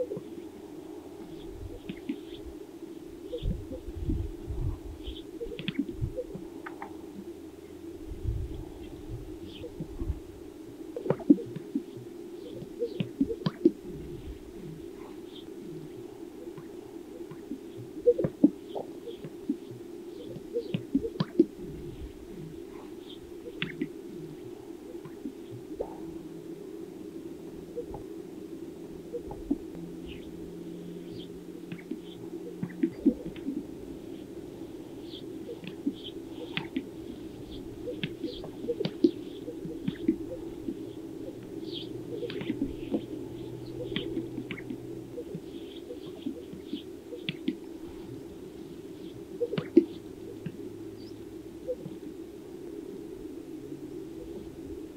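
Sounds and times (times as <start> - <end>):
low background hum: 0.0 - 54.9
low bird chorus: 0.0 - 54.9.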